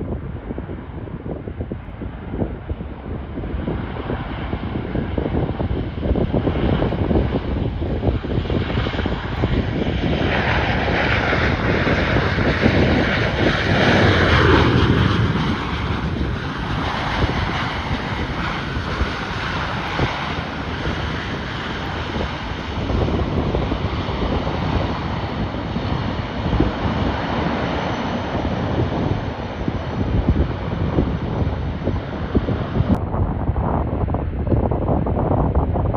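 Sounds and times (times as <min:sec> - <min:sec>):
airliner engines passing: 0:00.0 - 0:35.9
wind buffeting microphone: 0:00.0 - 0:35.9.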